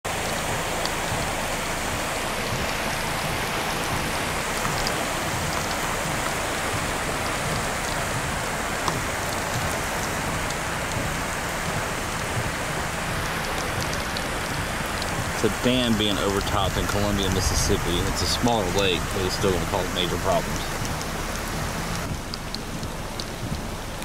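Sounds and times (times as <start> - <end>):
torrential rain pouring: 0.0 - 24.0
drops ticking close by: 0.1 - 24.0.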